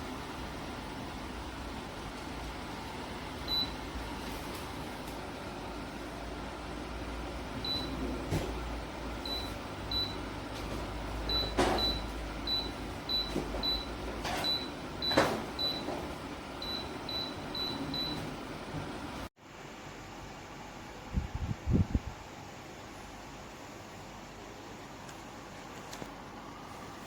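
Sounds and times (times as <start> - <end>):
fan blowing air: 0.0 - 27.0.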